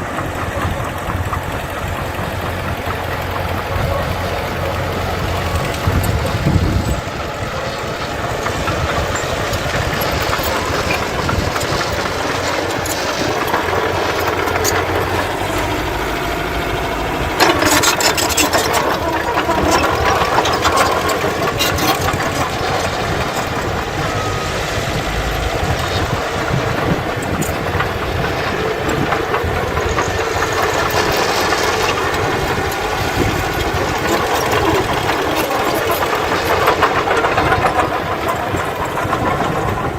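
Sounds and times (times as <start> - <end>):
diesel engines of earthmoving machinery: 0.0 - 39.9.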